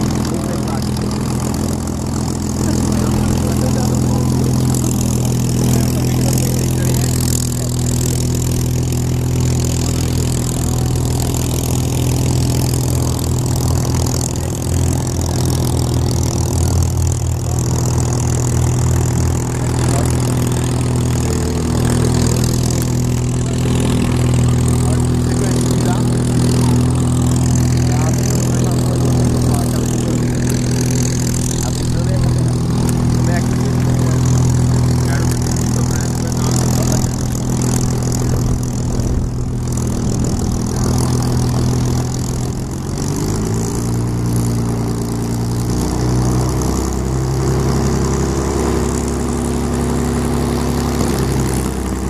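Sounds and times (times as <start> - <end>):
propeller aircraft engine idling: 0.0 - 52.0.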